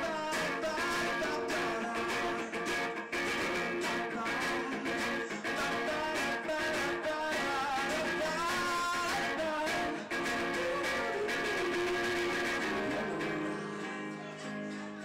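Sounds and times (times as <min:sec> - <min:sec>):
man singing: 0:00.0 - 0:14.6
strummed guitars: 0:00.0 - 0:15.0.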